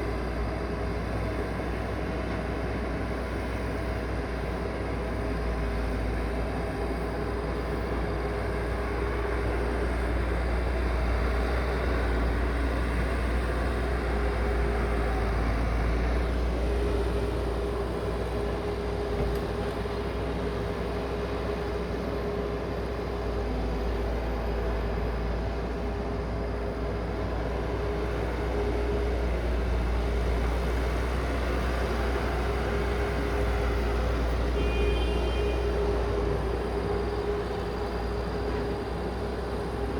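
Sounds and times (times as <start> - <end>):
heavy machine engine rumbling: 0.0 - 39.9.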